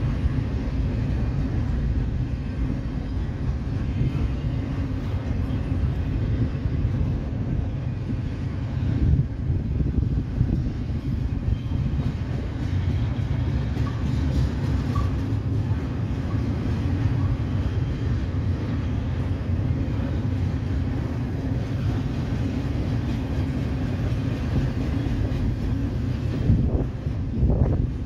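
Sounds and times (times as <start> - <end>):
train cars rumbling on rails: 0.0 - 28.0.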